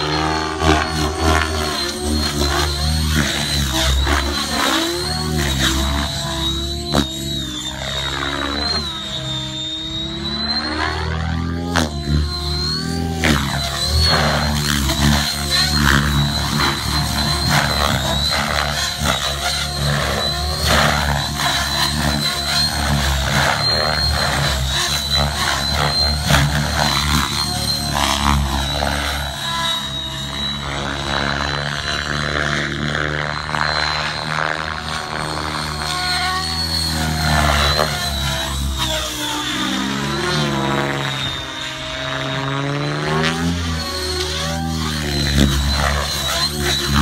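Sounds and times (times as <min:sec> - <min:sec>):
rc helicopter rotor and motor: 0:00.0 - 0:47.0.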